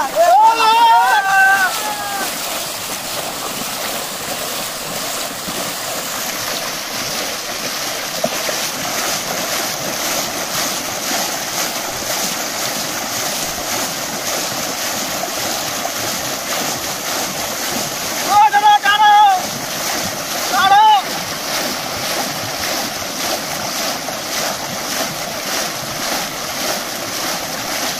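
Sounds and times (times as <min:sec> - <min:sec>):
hands splashing muddy water: 0:00.0 - 0:27.9.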